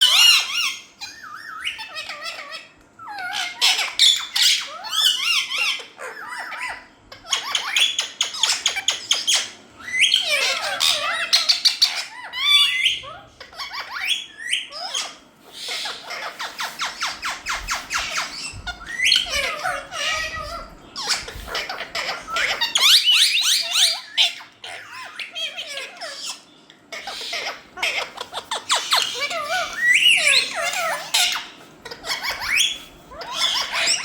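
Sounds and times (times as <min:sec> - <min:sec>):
parakeets squawking and chattering: 0:00.0 - 0:34.0.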